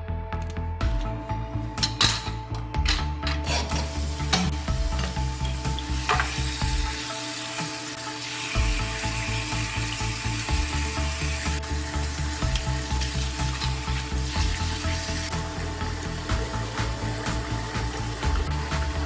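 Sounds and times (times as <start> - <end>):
background music with bass line: 0.0 - 19.0.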